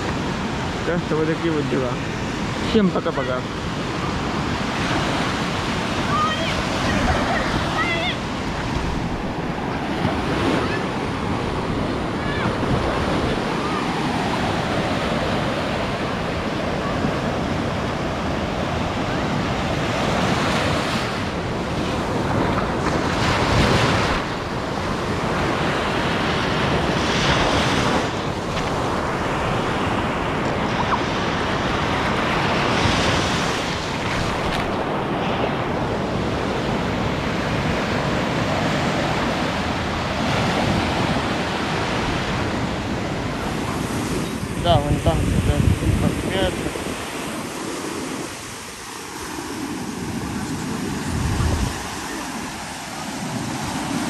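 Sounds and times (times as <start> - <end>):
waves breaking on beach: 0.0 - 54.0
wind buffeting microphone: 3.4 - 54.0.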